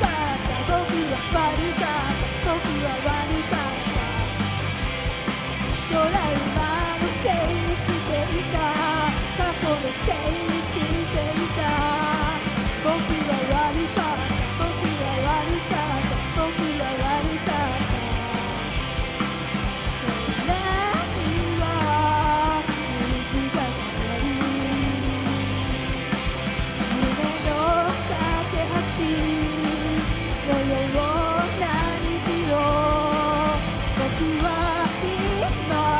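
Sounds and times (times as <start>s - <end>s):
person singing: 0.0s - 4.4s, 5.8s - 18.6s, 20.1s - 25.7s, 26.9s - 35.9s
rock band playing live: 0.0s - 35.9s.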